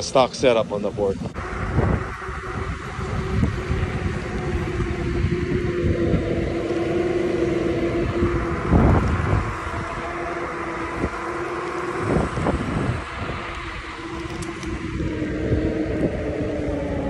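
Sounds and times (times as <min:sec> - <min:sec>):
wheels rumbling on asphalt: 0:00.0 - 0:17.0
wind: 0:00.0 - 0:17.0
electric motor whining: 0:01.4 - 0:17.0.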